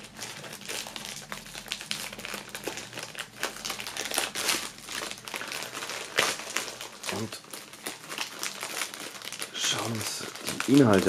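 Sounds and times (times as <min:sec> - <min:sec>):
plastic bag crackle: 0:00.0 - 0:11.0
plastic bag crinkling: 0:00.0 - 0:11.0.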